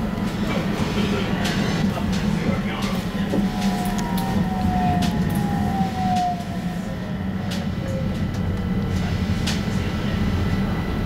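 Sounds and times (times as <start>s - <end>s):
electric tram drive whining: 0.0s - 11.0s.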